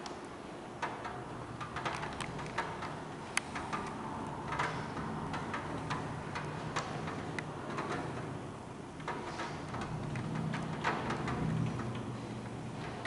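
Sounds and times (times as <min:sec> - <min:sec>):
steady hiss of rain: 0:00.0 - 0:13.0
raindrops tapping on window: 0:00.8 - 0:13.0.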